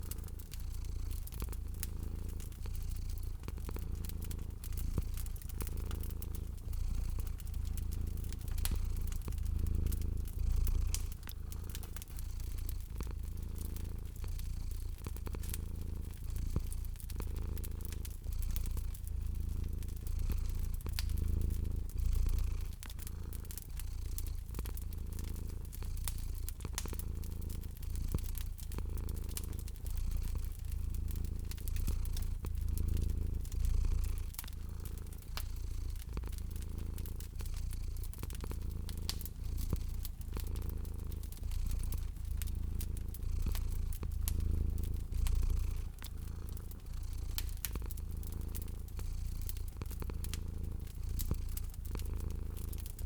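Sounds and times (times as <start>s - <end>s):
cat purring: 0.0s - 53.0s
fire crackling and popping: 0.0s - 53.0s.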